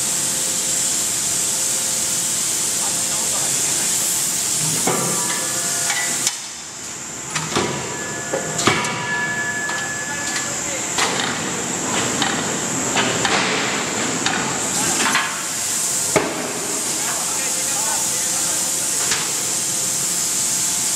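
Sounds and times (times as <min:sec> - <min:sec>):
steady high hiss: 0:00.0 - 0:20.9.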